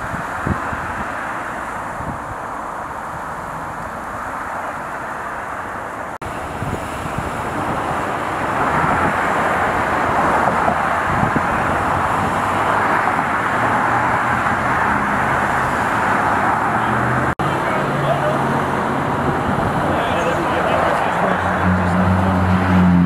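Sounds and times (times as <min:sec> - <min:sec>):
road traffic rushing: 0:00.0 - 0:23.0.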